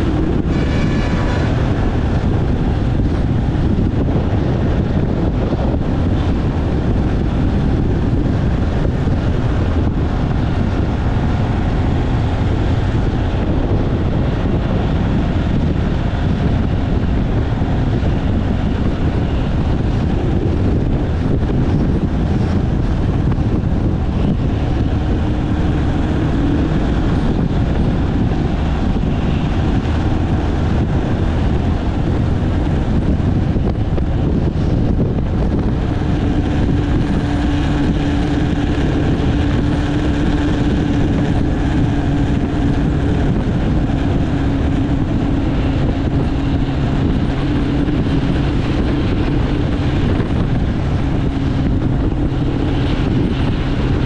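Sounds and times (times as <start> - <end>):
road noise: 0.0 - 54.0
vehicle engine drone: 0.0 - 54.0.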